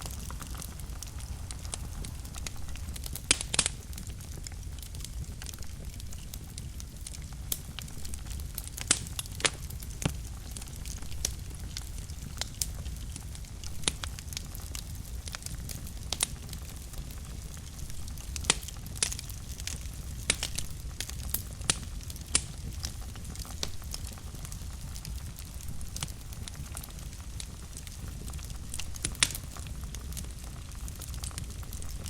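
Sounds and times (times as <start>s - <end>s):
fire flames rumbling: 0.0s - 32.0s
logs crackling and popping: 0.0s - 32.0s.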